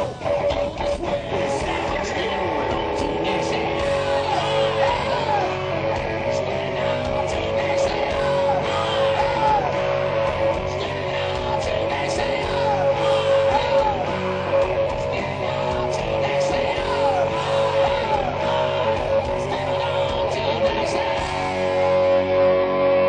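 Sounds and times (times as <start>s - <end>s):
drums: 0.0s - 23.0s
electric guitar: 0.0s - 23.0s
sliding lead guitar line: 0.0s - 23.0s.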